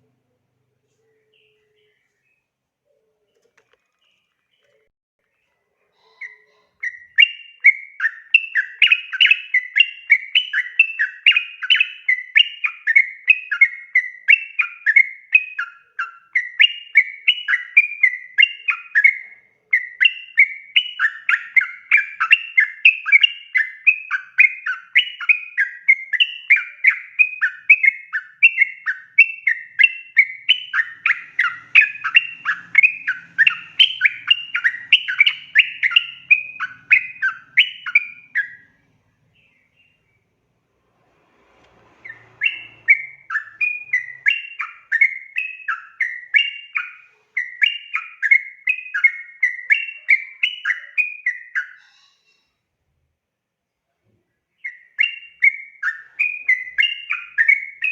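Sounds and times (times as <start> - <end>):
bulbul singing rapid chirps: 6.2 - 40.2, 42.0 - 51.8, 54.7 - 57.9.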